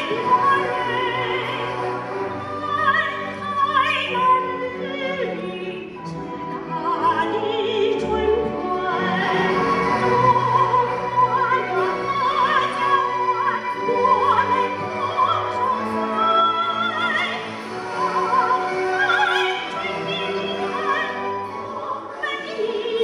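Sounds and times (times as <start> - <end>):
orchestral accompaniment: 0.0 - 23.0
woman singing operatically: 0.0 - 23.0.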